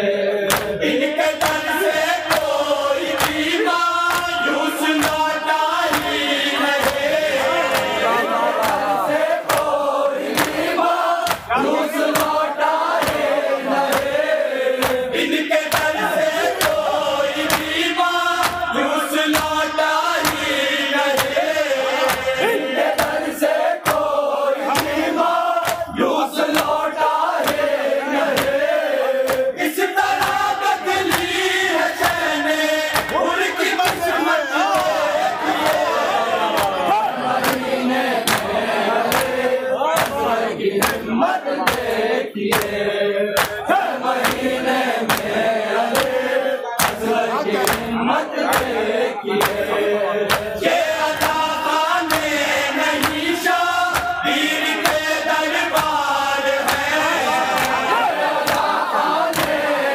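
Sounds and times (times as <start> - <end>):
men chanting in unison: 0.0 - 59.9
hands beating on chests: 0.5 - 0.8, 1.4 - 18.7, 19.3 - 25.9, 26.5 - 28.6, 29.2 - 29.5, 30.1 - 39.4, 40.0 - 42.8, 43.4 - 46.2, 46.8 - 47.9, 48.5 - 59.7.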